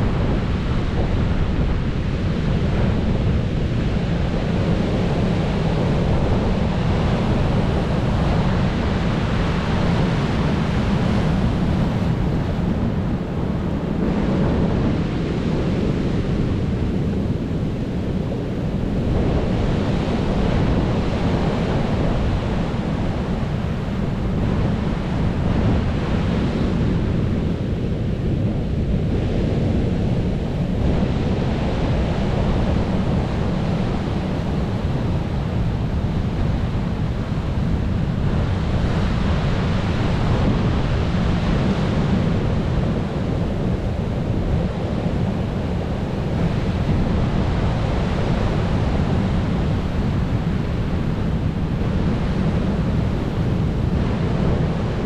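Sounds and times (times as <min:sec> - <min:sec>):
wind on microphone: 0:00.0 - 0:55.0.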